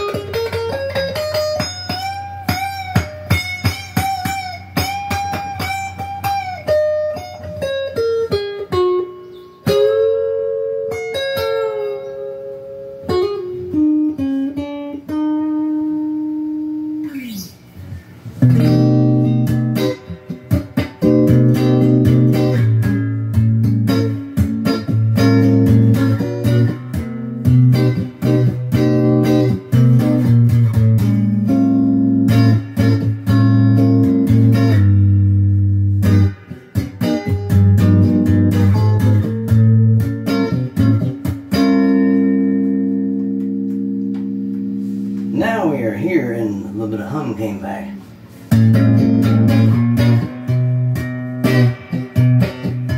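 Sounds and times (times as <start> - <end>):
electric guitar through an amp: 0.0 - 52.9
guitar single-note line with slide: 0.0 - 52.9
strummed guitar chords: 0.0 - 52.9.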